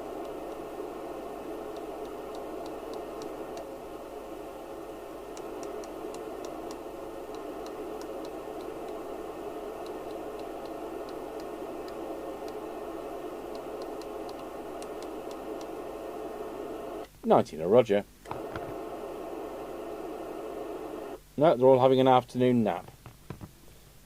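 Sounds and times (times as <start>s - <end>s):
radio receiver hiss: 0.0s - 21.2s.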